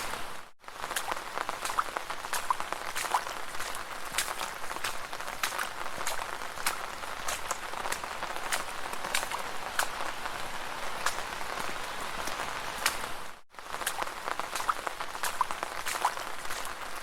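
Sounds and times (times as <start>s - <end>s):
continuous watery hiss: 0.0s - 17.0s
footsteps splashing through puddles: 0.0s - 17.0s.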